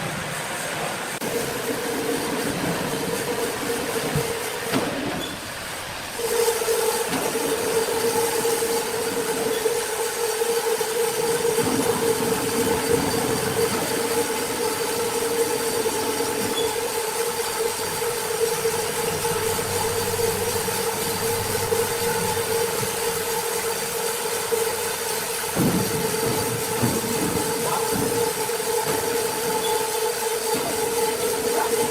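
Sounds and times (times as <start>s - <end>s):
sawmill machinery running: 0.0s - 31.9s.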